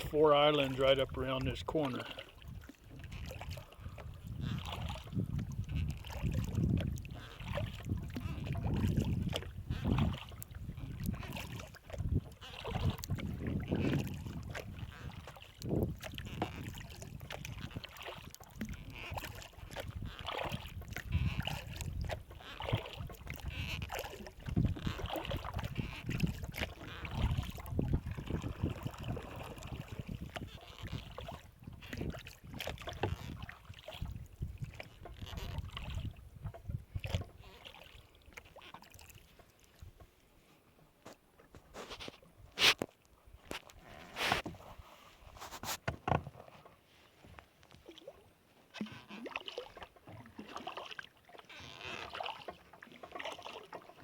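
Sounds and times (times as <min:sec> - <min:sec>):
paddle splashing through water: 0:00.0 - 0:54.0.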